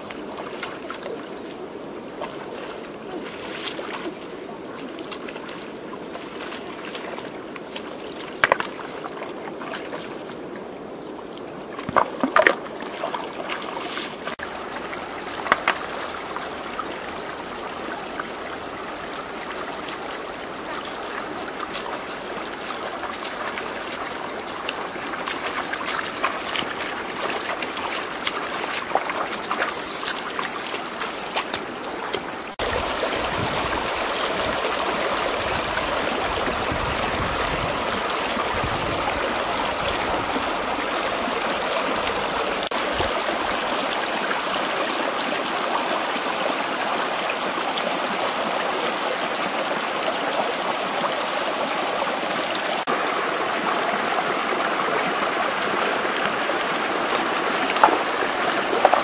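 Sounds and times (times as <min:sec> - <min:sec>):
bare feet splashing in stream: 0:00.0 - 0:59.0
stream water rushing: 0:00.0 - 0:59.0.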